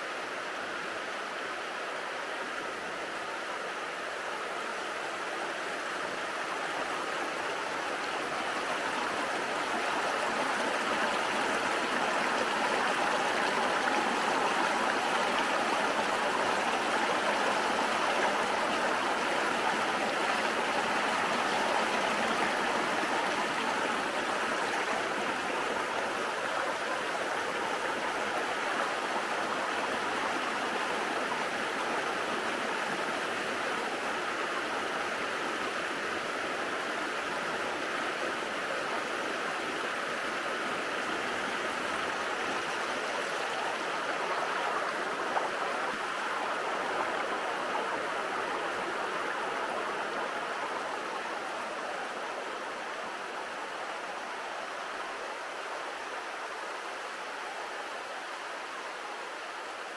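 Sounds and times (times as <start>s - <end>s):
water rushing down waterfall: 0.0s - 59.9s.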